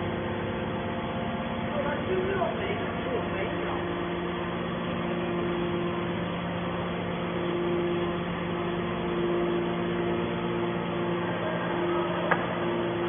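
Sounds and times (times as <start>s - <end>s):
baler machinery humming: 0.0s - 13.0s.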